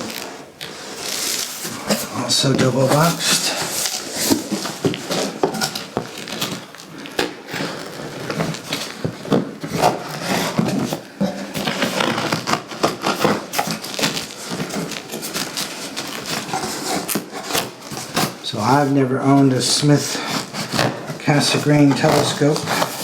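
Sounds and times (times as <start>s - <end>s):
cardboard box rustling and scraping: 0.0s - 23.0s.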